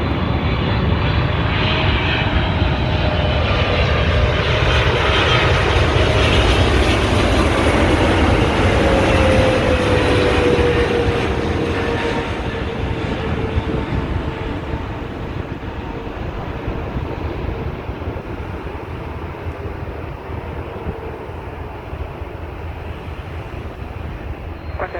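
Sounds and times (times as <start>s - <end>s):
jet engine whine: 0.0s - 24.9s
jet engines roaring: 0.0s - 24.9s.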